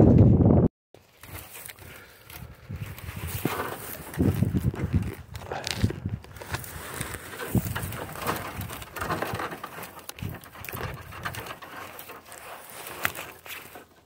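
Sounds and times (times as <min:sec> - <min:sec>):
vine canes rustling and scraping: 0:01.0 - 0:14.0.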